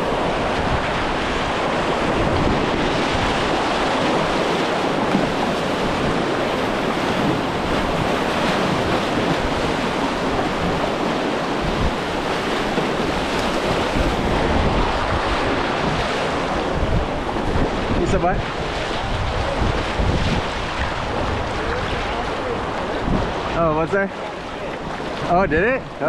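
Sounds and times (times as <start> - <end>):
whitewater rushing: 0.0 - 26.0
wind buffeting microphone: 0.0 - 26.0.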